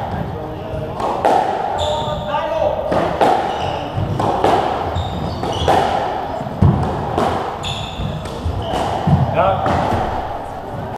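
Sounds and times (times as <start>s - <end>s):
squash ball hitting rackets and walls: 0.0s - 10.9s
shoes squeaking on wooden floor: 1.7s - 10.9s.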